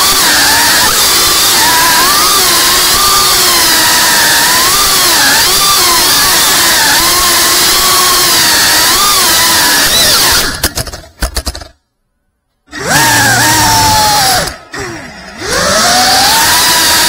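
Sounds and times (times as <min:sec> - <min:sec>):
drone motors whining: 0:00.0 - 0:10.7, 0:12.7 - 0:17.0.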